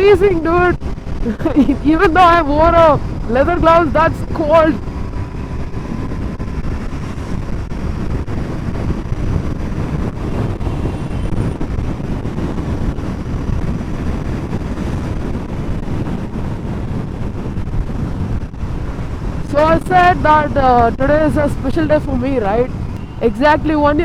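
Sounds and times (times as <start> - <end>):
motorcycle engine cruising: 0.0 - 24.0
wind rush over microphone: 0.0 - 24.0.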